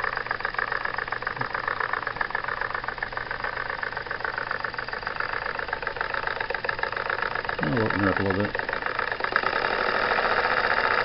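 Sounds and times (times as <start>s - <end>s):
coffee grinder gears clattering: 0.0s - 11.0s
steam engine running: 0.0s - 11.0s.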